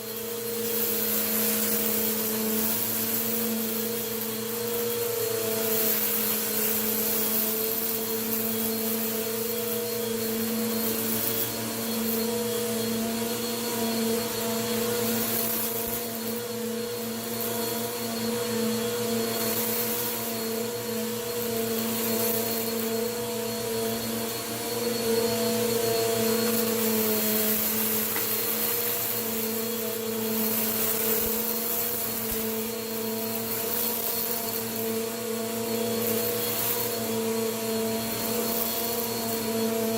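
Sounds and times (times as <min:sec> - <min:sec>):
vacuum cleaner running: 0:00.0 - 0:39.9
vacuum sucking up crunchy dirt: 0:00.0 - 0:39.9.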